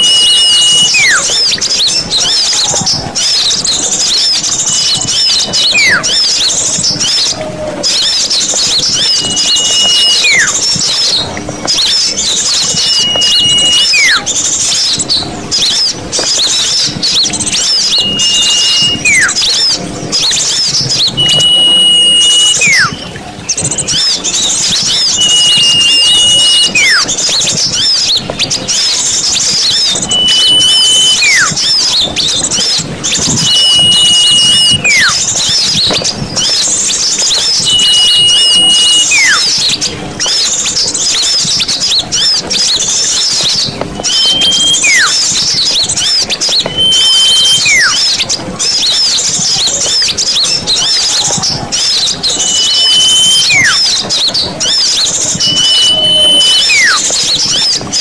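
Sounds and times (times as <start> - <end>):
small birds chirping chorus: 0.0 - 58.0
whistle with falling glide: 0.0 - 58.0.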